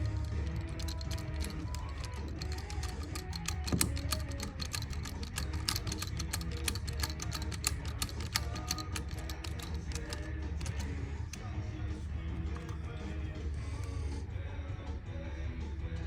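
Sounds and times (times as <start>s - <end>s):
small irregular clicks: 0.0s - 14.2s.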